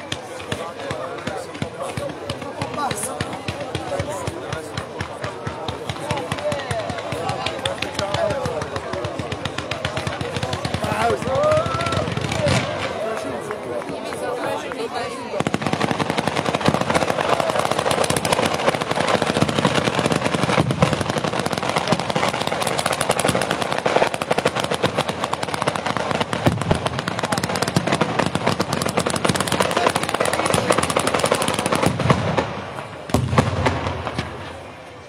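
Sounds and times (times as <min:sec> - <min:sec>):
heavy firework bangs: 0:00.0 - 0:13.6, 0:15.1 - 0:34.9
fireworks crackling: 0:00.0 - 0:35.0.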